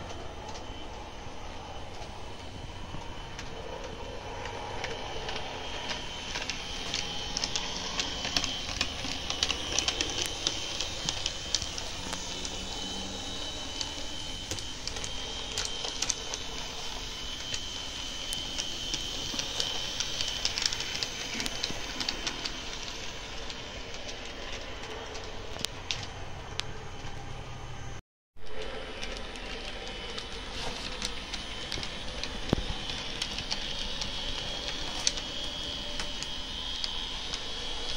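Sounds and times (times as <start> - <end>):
wheels clicking over rail joints: 0.0 - 27.4, 28.5 - 37.9
electric motor whine: 0.0 - 37.9.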